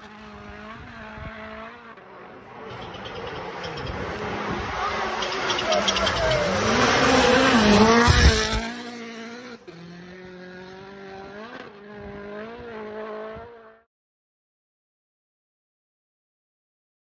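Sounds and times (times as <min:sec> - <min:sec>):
rally car engine passing: 0:00.0 - 0:13.9.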